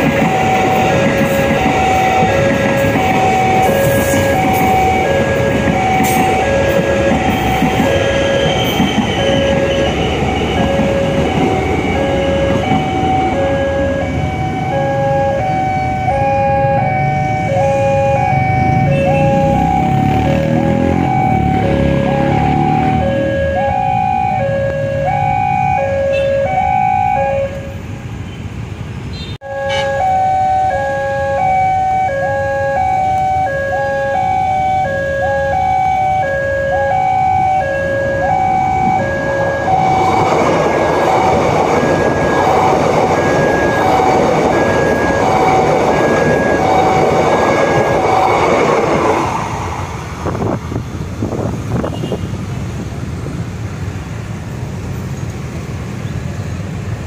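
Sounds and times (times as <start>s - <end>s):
train wheels rumbling on rails: 0.0s - 25.6s, 36.8s - 57.0s.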